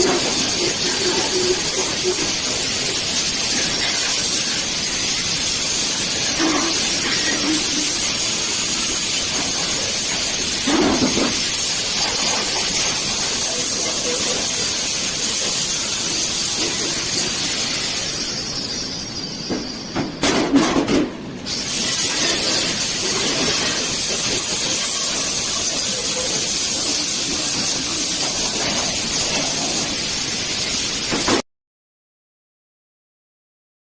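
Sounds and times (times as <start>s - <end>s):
angle grinder grinding metal: 0.0s - 18.3s, 21.5s - 31.2s.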